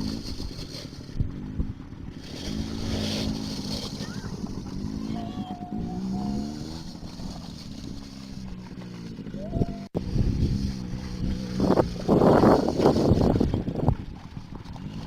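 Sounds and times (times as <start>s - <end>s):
small atv engine running: 0.0s - 15.0s.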